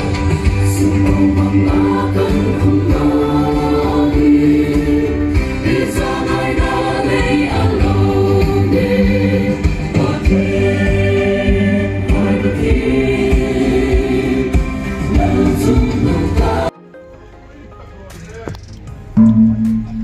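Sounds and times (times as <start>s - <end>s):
choir singing a hymn: 0.0s - 16.8s.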